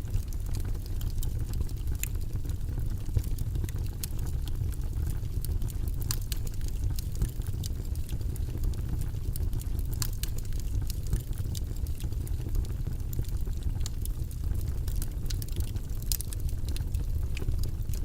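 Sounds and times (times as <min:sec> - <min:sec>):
low rumbling white noise: 0:00.0 - 0:18.0.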